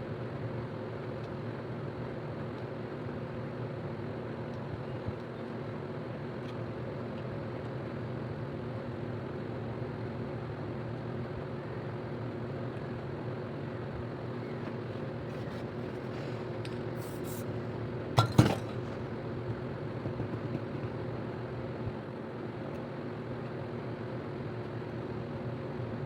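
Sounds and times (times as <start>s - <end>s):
mechanical hum: 0.0s - 26.0s.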